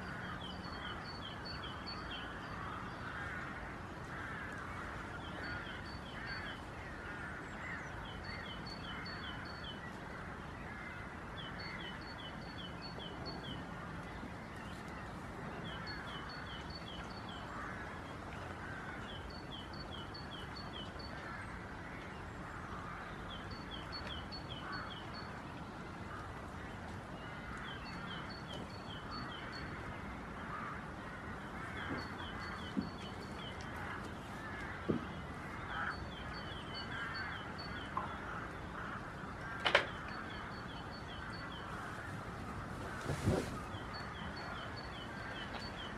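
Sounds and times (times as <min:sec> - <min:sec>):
many birds chattering: 0:00.0 - 0:25.4, 0:26.1 - 0:45.9.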